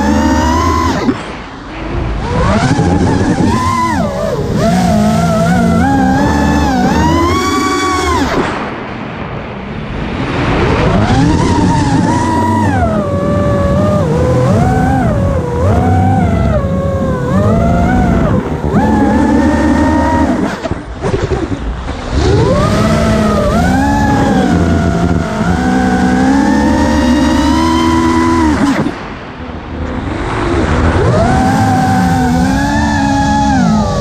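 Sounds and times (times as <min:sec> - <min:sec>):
drone motors whining: 0:00.0 - 0:08.6, 0:10.8 - 0:29.0, 0:29.8 - 0:34.0.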